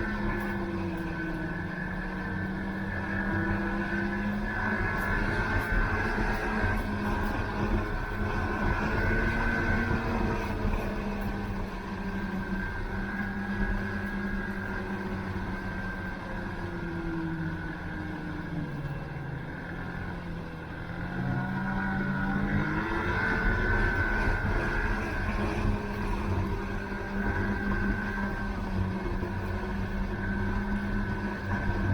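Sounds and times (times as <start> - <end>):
snowmobile engine running: 0.0 - 31.9.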